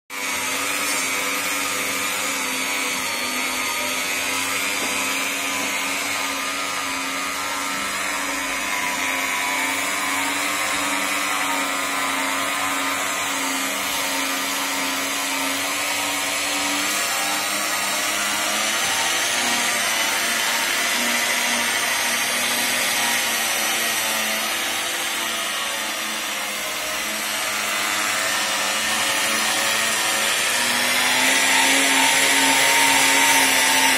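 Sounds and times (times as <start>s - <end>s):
dough mixer motor whining: 0.1s - 33.9s.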